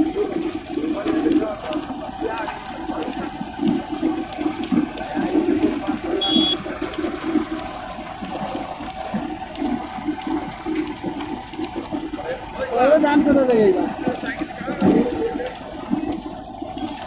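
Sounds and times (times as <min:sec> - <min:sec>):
shredding machine whirring: 0:00.0 - 0:17.0.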